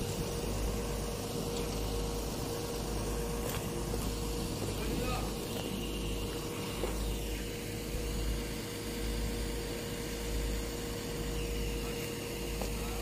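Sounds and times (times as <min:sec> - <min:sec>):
steady machine drone: 0:00.0 - 0:13.0.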